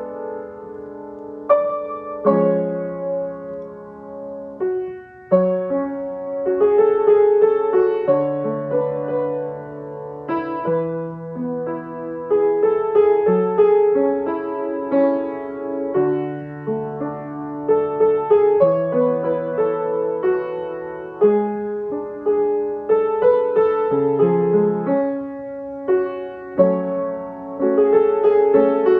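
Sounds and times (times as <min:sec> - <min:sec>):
slow gentle piano melody: 0:00.0 - 0:28.9.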